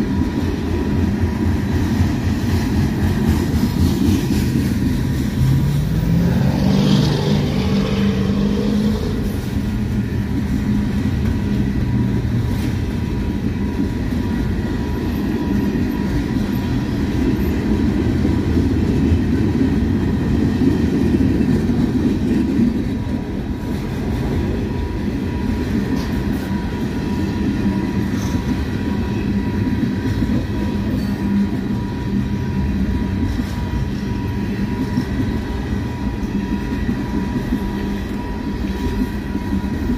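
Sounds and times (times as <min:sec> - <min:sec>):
steel wheels rumbling on rails: 0:00.0 - 0:39.9.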